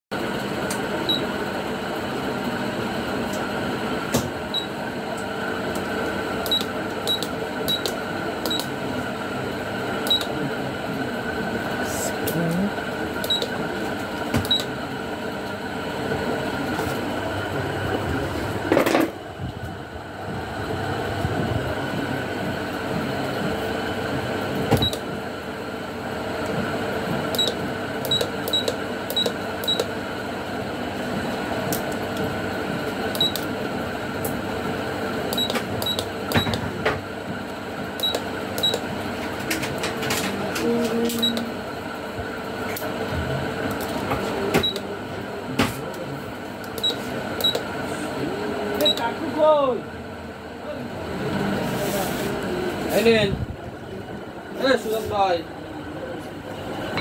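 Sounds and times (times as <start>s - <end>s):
steady background hum: 0.1s - 57.0s.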